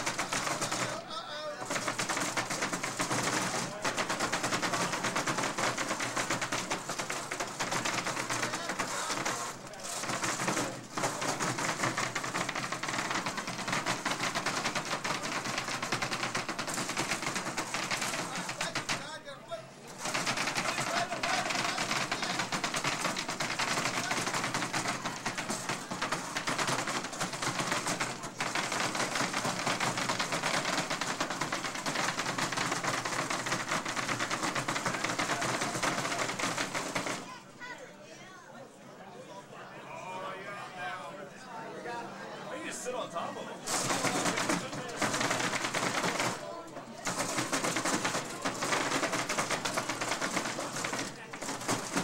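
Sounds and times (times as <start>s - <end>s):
robots rattling on plywood: 0.0s - 19.2s, 19.9s - 37.4s, 43.6s - 52.0s.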